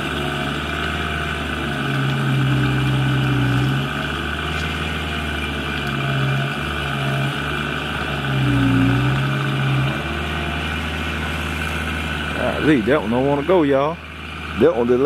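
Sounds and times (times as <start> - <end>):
heavy machine engine under load: 0.0 - 15.0.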